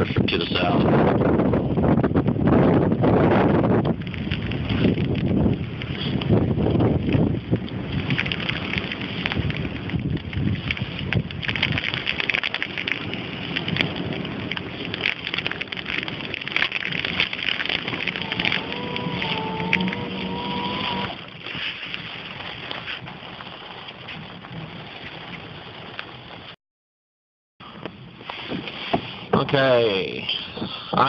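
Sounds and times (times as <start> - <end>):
wind gusting over microphone: 0.0 - 26.6, 27.6 - 31.0.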